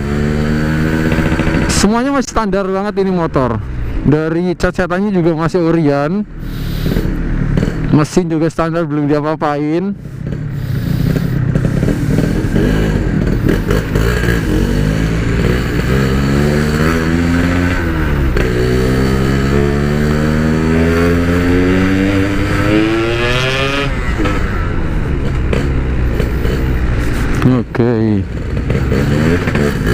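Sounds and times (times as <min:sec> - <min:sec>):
motorcycle engine accelerating: 0:00.0 - 0:03.5, 0:05.7 - 0:08.4, 0:10.0 - 0:29.9.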